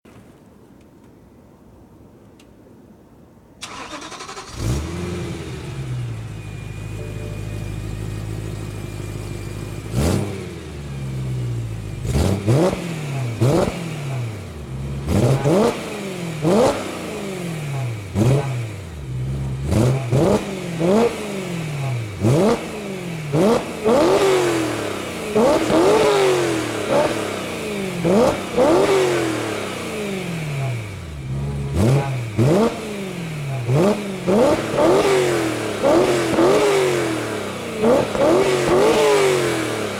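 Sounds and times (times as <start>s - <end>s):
car engine idling and revving: 3.6s - 39.9s.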